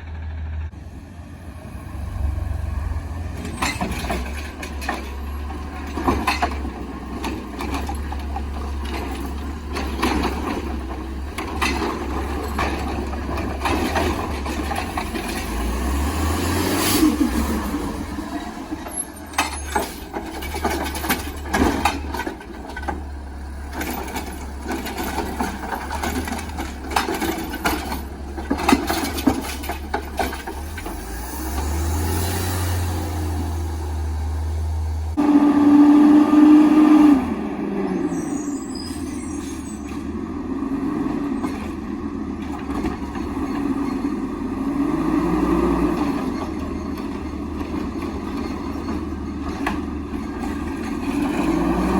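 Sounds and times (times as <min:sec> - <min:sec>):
garbage truck running: 0:00.0 - 0:51.9
knocks and clatter of cart dumping: 0:03.1 - 0:35.2, 0:38.2 - 0:51.9.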